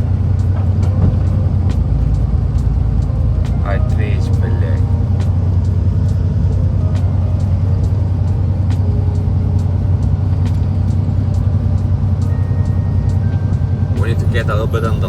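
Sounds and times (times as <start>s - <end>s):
faint regular ticking: 0.0s - 15.0s
truck engine droning: 0.0s - 15.0s.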